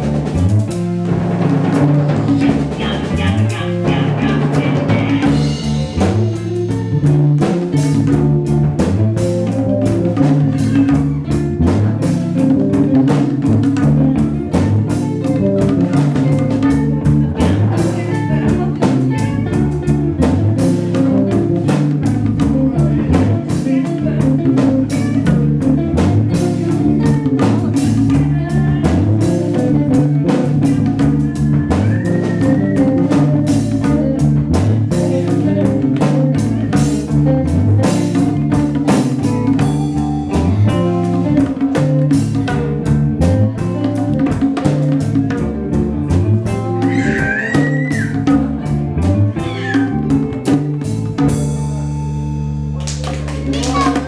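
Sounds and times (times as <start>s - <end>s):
band playing guitar bass and drums: 0.0s - 54.0s.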